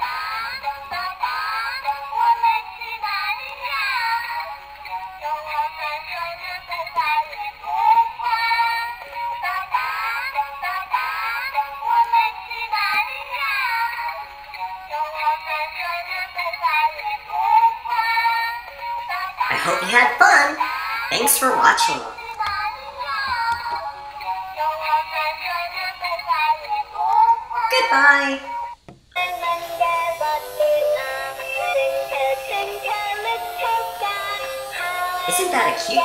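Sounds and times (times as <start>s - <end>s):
toy playing tinny children's song: 0.0s - 36.0s.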